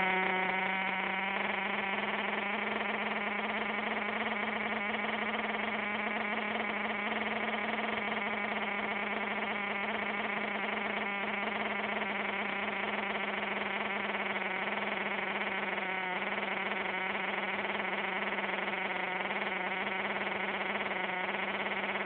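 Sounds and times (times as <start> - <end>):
small rc truck engine idling: 0.0 - 22.0.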